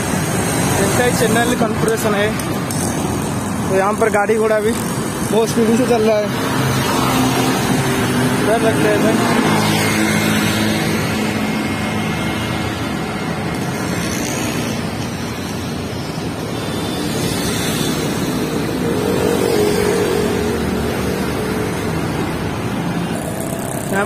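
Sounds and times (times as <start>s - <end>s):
auto-rickshaws passing: 0.0s - 24.0s
cars passing: 0.0s - 24.0s
engine and tyre noise: 0.0s - 24.0s
motorcycles passing: 0.0s - 24.0s.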